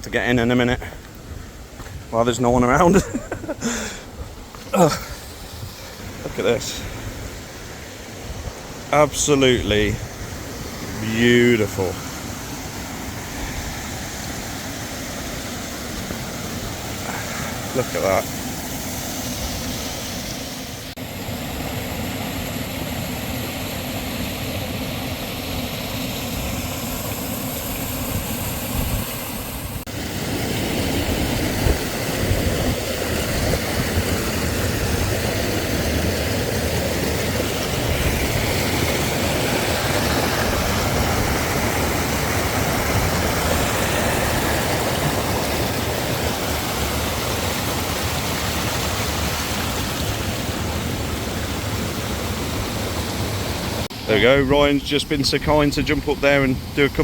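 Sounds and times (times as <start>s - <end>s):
small waterfall and stream rushing: 0.0s - 57.0s.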